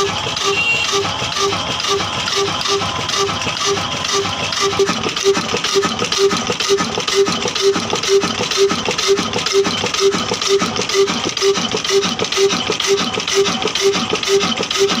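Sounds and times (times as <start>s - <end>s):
diesel engine running slowly: 0.0s - 15.0s.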